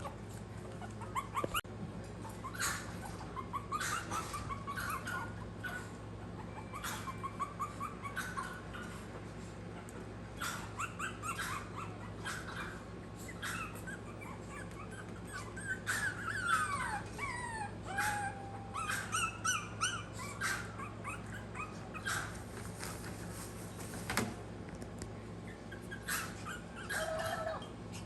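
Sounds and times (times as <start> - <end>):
puppy whines: 0.0 - 22.8, 25.4 - 28.0
puppies whimpering and yipping: 0.0 - 23.5, 25.4 - 28.0.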